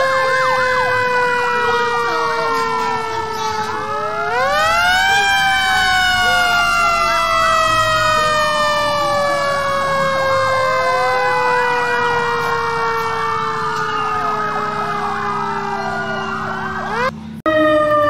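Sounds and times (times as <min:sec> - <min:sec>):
fire engine siren: 0:00.0 - 0:18.0.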